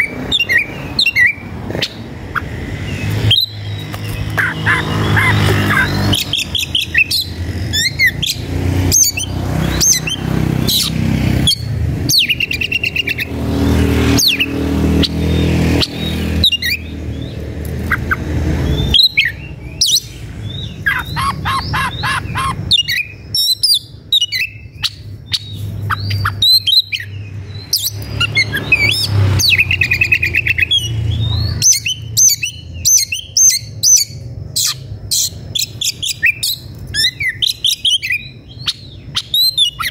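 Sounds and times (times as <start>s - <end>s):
bird singing whistles and trills: 0.0s - 2.0s, 2.9s - 13.4s, 14.1s - 39.9s.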